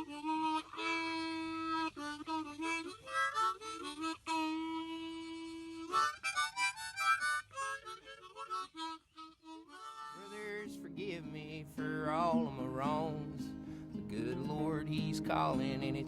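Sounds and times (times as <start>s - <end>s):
harmonica solo: 0.0s - 16.0s.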